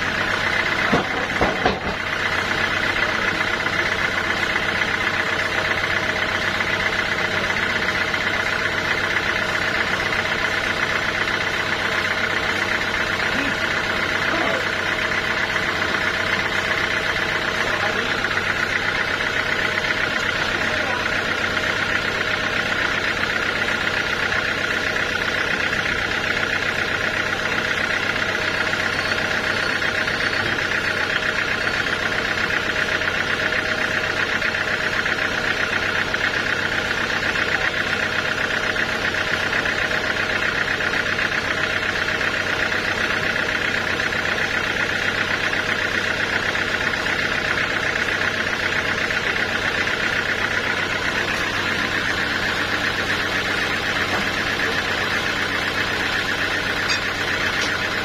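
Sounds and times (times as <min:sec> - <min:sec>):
saw blade whine: 0:00.0 - 0:58.0
sawmill engine drone: 0:00.0 - 0:58.0.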